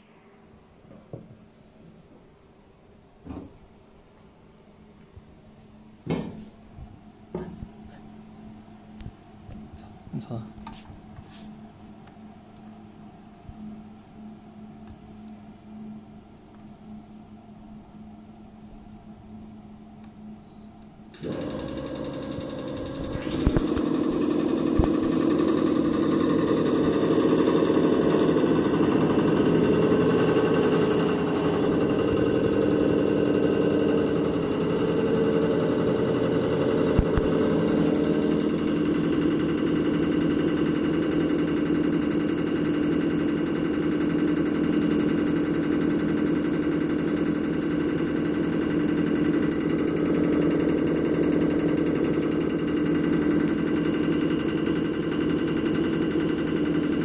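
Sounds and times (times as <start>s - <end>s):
test bench pump humming and pulsing: 0.0s - 57.0s.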